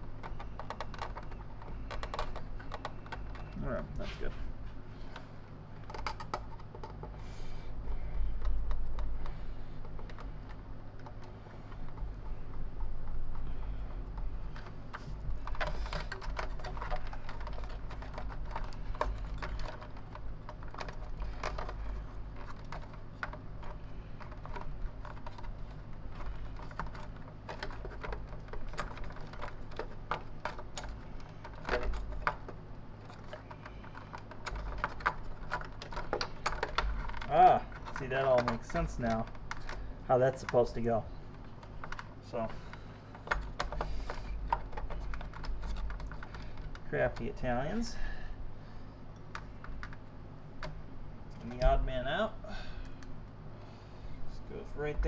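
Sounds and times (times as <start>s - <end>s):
plastic parts clicking and rattling: 0.0s - 4.4s, 5.0s - 47.9s, 49.0s - 52.2s
steady low hum: 0.0s - 55.0s.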